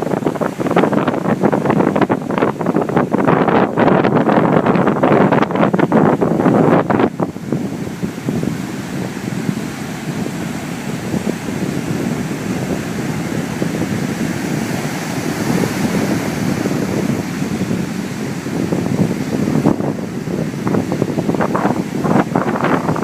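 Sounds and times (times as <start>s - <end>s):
surf breaking: 0.0s - 23.0s
wind buffeting microphone: 0.0s - 23.0s.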